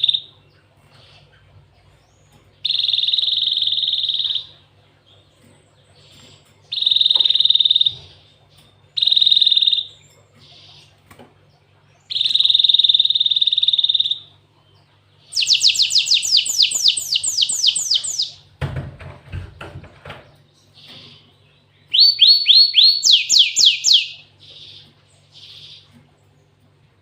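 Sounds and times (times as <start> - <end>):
bird singing: 0.0 - 18.5, 20.0 - 26.8.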